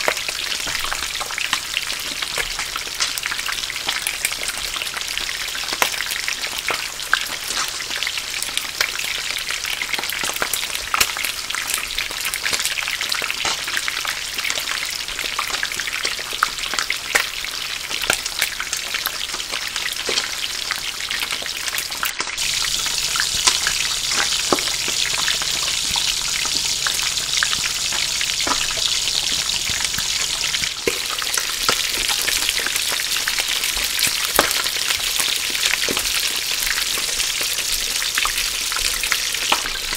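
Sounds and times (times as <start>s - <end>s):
fries deep-frying in hot oil: 0.0s - 39.9s.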